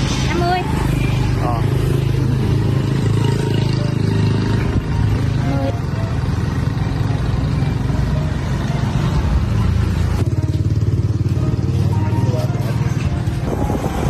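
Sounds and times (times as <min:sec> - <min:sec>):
road and wind noise: 0:00.0 - 0:14.0
vehicle engine running: 0:00.0 - 0:14.0.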